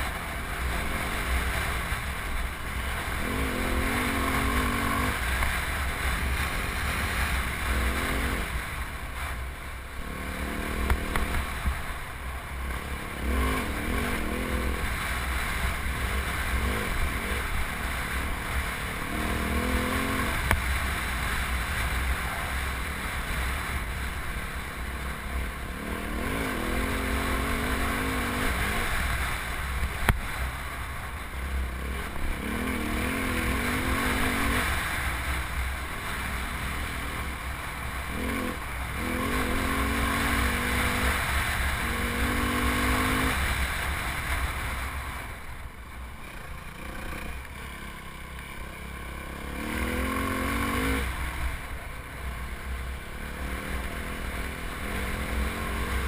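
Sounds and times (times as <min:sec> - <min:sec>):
dirt bike engine revving: 0:00.0 - 0:24.1, 0:24.9 - 0:30.4, 0:31.4 - 0:44.8, 0:46.2 - 0:56.0.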